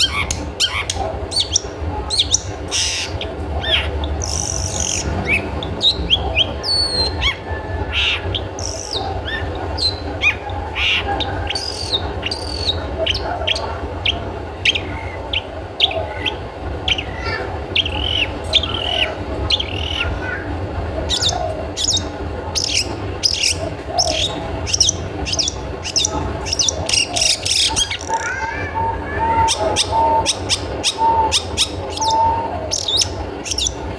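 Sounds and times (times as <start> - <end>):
bird giving sharp high calls: 0.0 - 33.9
steady low hum: 0.0 - 33.9.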